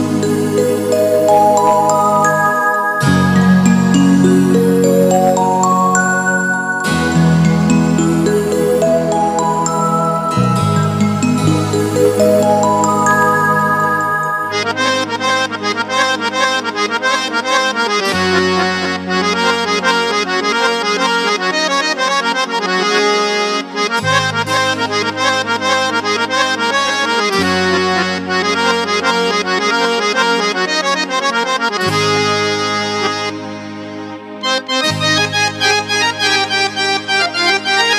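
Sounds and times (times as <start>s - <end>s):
keyboard harmonium melody: 0.0s - 37.9s.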